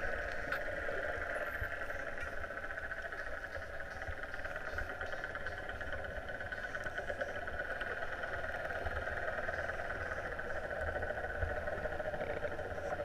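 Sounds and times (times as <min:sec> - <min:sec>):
muffled underwater drone: 0:00.0 - 0:13.0.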